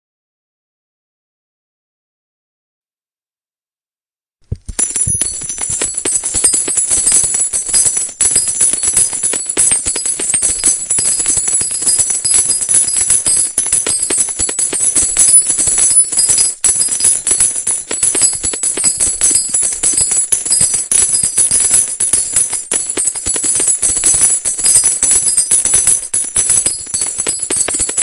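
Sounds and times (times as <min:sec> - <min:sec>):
metal coins clattering: 0:04.7 - 0:28.0.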